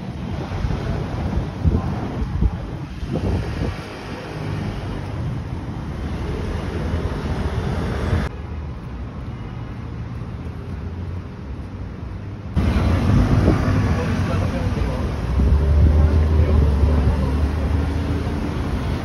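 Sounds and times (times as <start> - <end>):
passing vehicles rumbling: 0.0 - 19.0.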